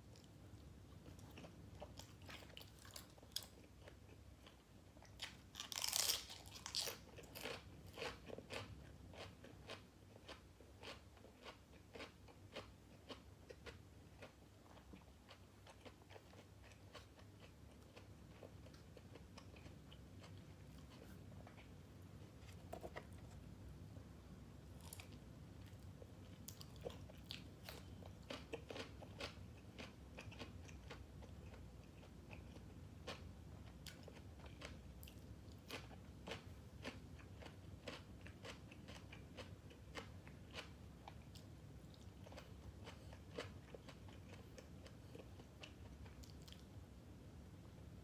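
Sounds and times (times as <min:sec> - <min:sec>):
person chewing crunchy food: 0:00.9 - 0:23.5, 0:24.7 - 0:46.7.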